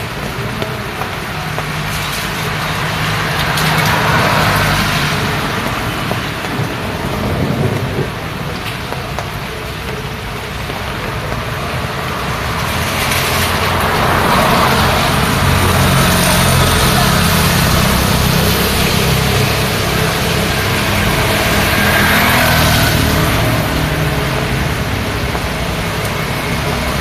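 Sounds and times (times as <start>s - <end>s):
rain hissing: 0.0s - 27.0s
vehicle engines and tyres: 0.0s - 27.0s.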